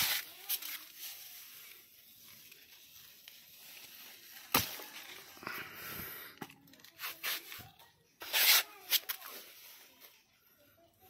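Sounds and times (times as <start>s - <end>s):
rustle of leaves and stems: 0.0s - 10.1s.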